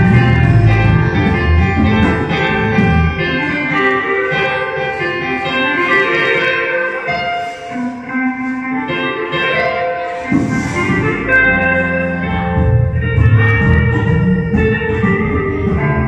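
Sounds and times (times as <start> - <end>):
electric bass guitar: 0.0 - 16.0
held keyboard chords: 0.0 - 16.0.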